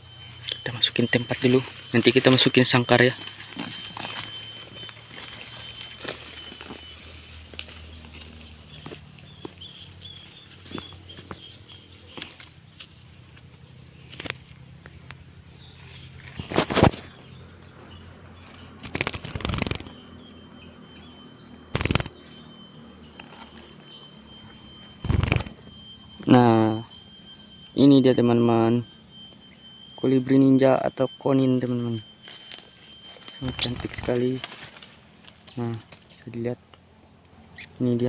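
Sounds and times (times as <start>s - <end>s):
forest insects droning: 0.0s - 38.0s.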